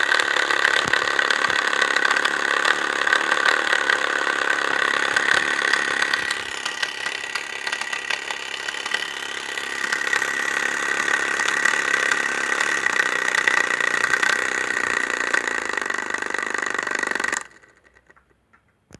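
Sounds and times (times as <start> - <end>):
small engine rapid clatter: 0.0 - 18.9.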